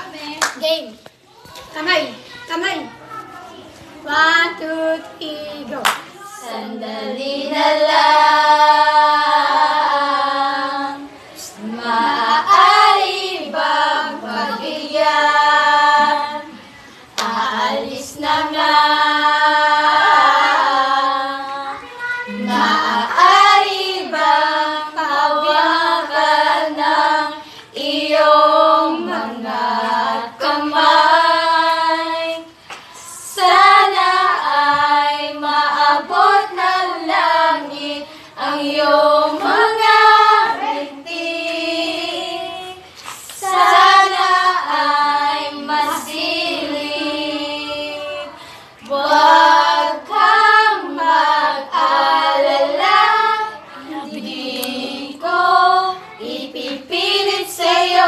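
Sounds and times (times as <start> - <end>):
girls singing unaccompanied: 0.0 - 1.3, 3.7 - 58.0.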